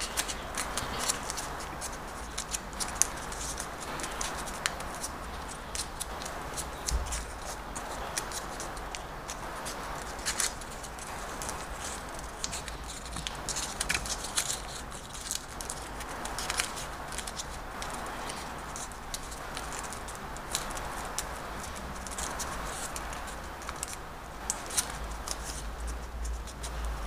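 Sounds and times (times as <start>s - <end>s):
background hiss: 0.0s - 27.0s
banknote paper crackling: 0.0s - 27.0s.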